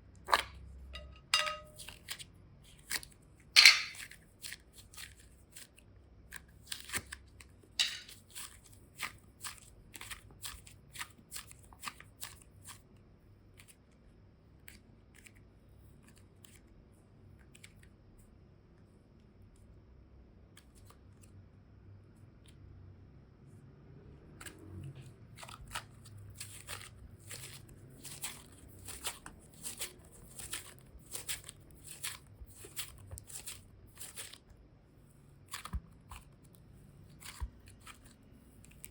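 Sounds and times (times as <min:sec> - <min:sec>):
slime and clay clicking and crackling: 0:00.0 - 0:18.2, 0:20.4 - 0:21.5, 0:24.4 - 0:38.9.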